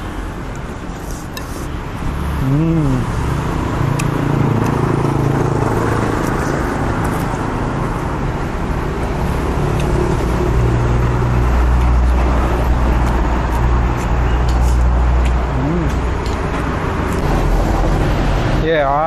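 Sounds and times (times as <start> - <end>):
road traffic noise: 0.0 - 19.0
deep engine hum: 2.1 - 18.5.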